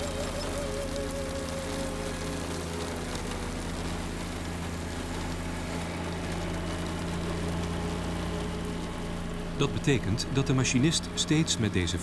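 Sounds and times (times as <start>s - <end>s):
diesel locomotive engine humming: 0.0s - 12.0s
heavy rain: 0.0s - 12.0s.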